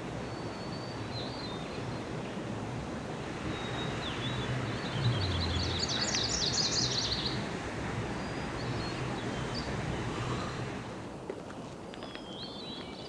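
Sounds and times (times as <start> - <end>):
low outdoor rumble: 0.0 - 11.8
songbird chirping: 0.1 - 2.5, 3.4 - 10.8, 11.5 - 13.0.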